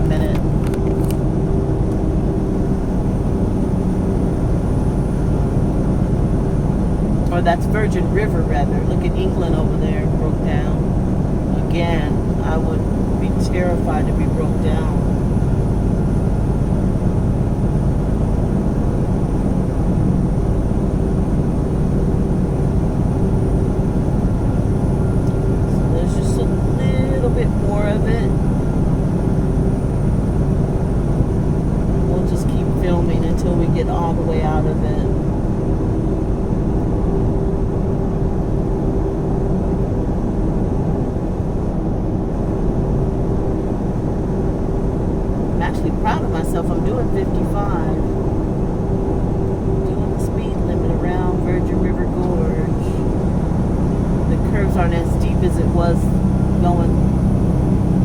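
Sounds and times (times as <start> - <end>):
road noise inside cab: 0.0 - 58.0
steady tonal whine: 0.0 - 58.0
truck diesel engine drone: 0.0 - 58.0.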